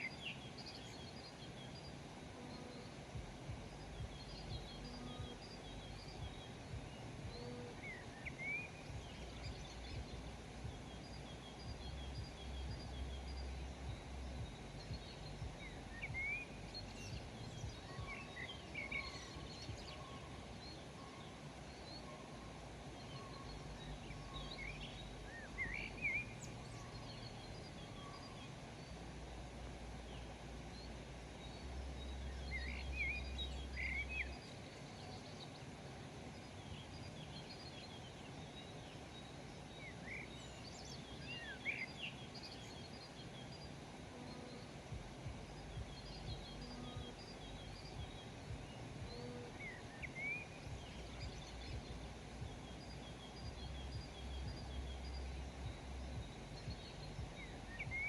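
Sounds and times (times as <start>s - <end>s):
quiet outdoor hiss: 0.0s - 58.0s
small birds chirping: 0.0s - 58.0s.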